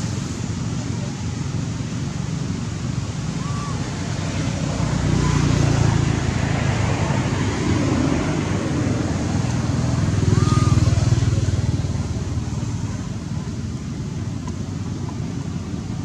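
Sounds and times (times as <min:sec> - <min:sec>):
motor engine rumbling: 0:00.0 - 0:16.0.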